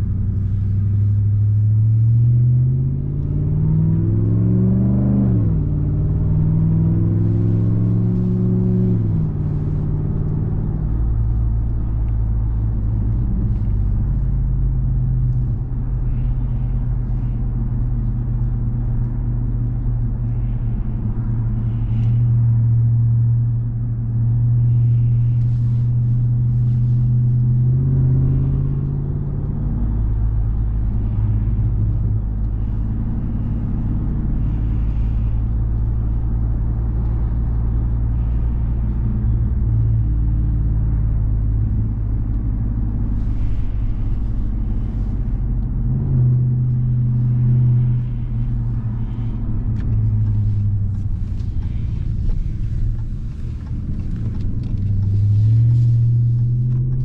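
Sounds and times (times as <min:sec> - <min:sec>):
truck engine low drone: 0:00.0 - 0:57.0.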